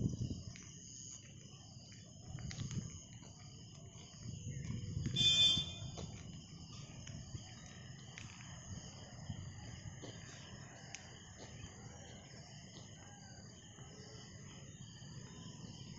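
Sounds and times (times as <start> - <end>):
insects chirring: 0.0 - 15.9.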